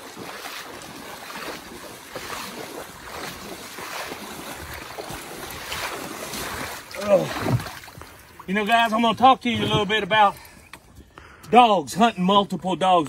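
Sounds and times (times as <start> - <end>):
water sloshing from wading: 0.0 - 10.9.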